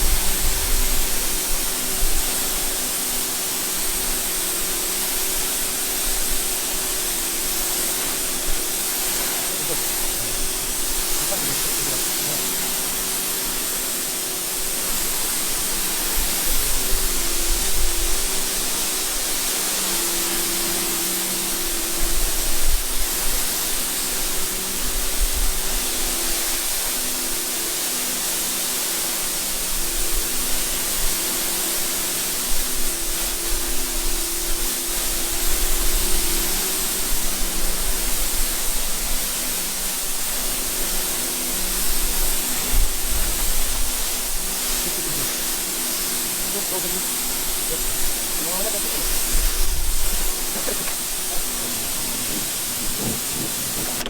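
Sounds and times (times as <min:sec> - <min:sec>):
water spraying from hose nozzle: 0:00.0 - 0:54.0.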